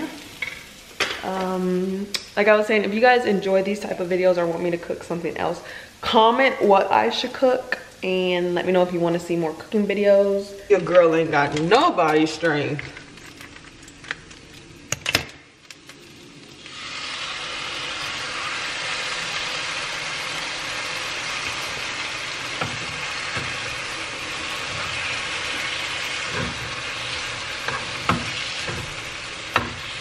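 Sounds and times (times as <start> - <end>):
food sizzling in a pan: 0.0 - 14.8, 15.5 - 30.0.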